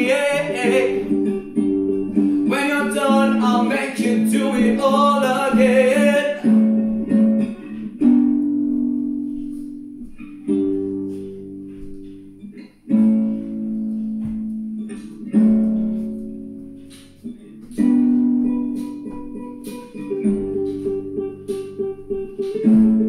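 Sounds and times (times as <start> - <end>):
guitar strummed chords: 0.0 - 23.0.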